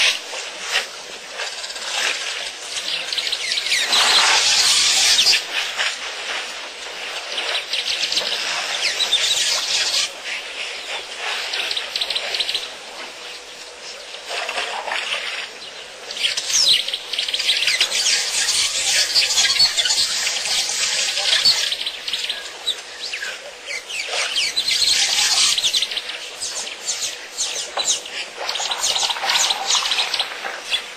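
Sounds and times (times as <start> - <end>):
birds chirping and chattering: 0.0 - 30.9.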